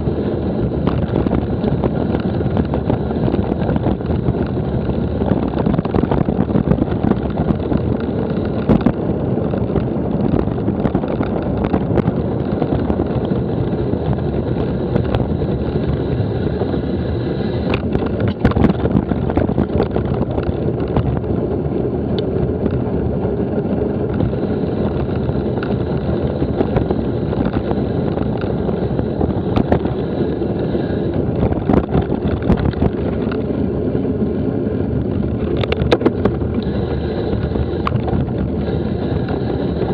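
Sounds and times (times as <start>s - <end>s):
bicycle clicks and knocks: 0.0s - 39.9s
wind rumble on microphone: 0.0s - 39.9s.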